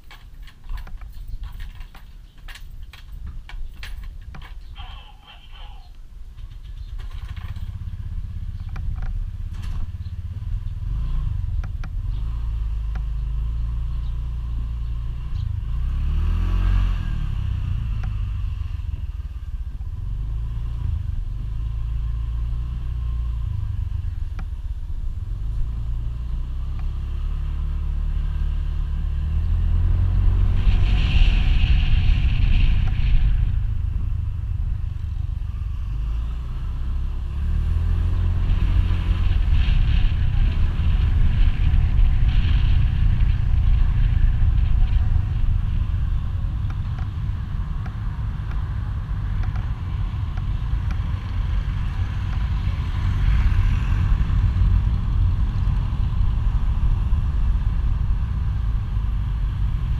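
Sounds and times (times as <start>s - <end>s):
wind rumble on microphone: 6.0s - 59.9s.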